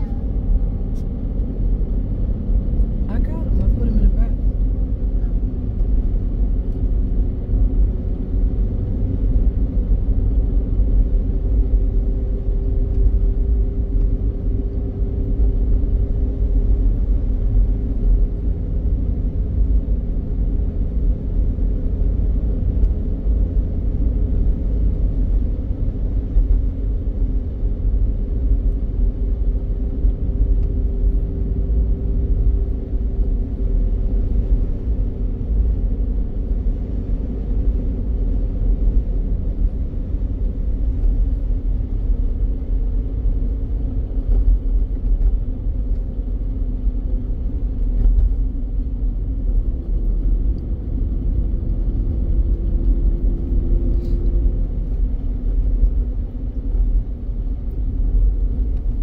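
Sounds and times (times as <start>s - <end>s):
tyre and engine rumble: 0.0s - 59.0s.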